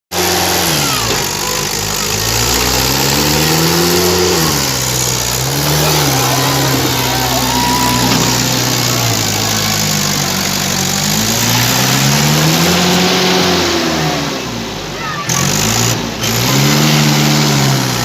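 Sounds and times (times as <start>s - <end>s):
tractor diesel engine: 0.0s - 18.0s.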